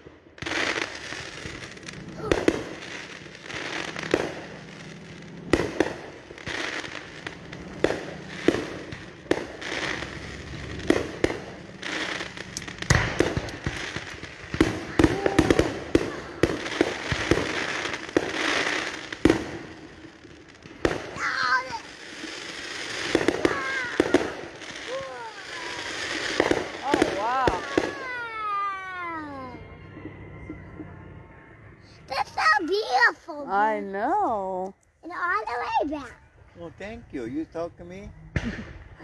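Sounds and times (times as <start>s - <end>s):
fireworks crackling: 0.0s - 30.4s, 31.3s - 39.0s
fireworks bangs: 0.0s - 34.2s, 35.2s - 39.0s.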